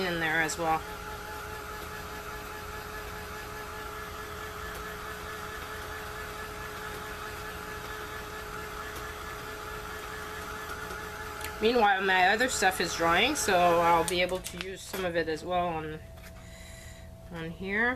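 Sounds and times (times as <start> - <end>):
machine hum: 0.0 - 17.7.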